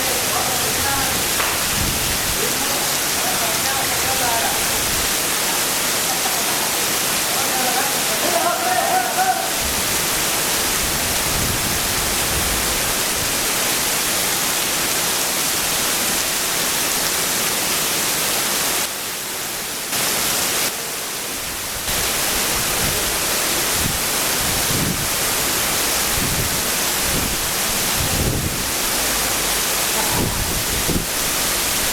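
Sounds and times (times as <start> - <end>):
rain falling: 0.0 - 31.9.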